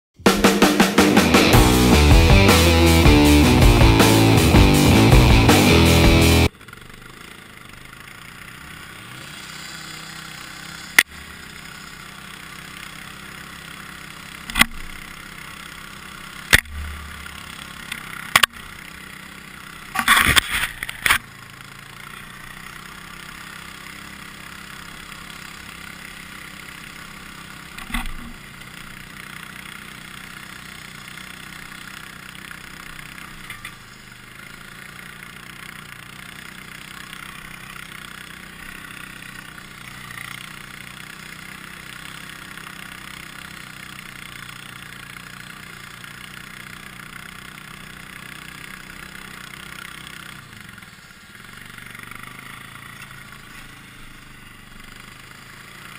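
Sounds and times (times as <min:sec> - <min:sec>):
atv engine running: 0:00.2 - 0:55.9.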